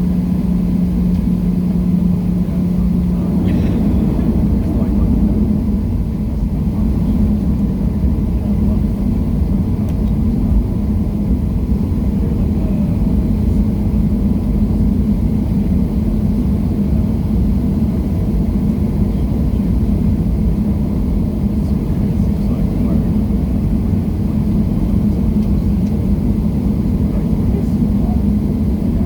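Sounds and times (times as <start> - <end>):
constant cabin hum: 0.0 - 29.0
jet engines rumbling: 0.0 - 29.0.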